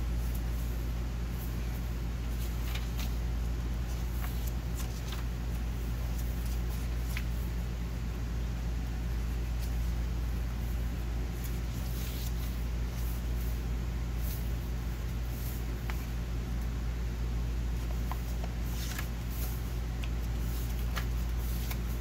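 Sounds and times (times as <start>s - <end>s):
low background hum: 0.0s - 22.0s
paper pages rustling: 0.1s - 7.6s, 9.1s - 16.3s, 17.7s - 22.0s.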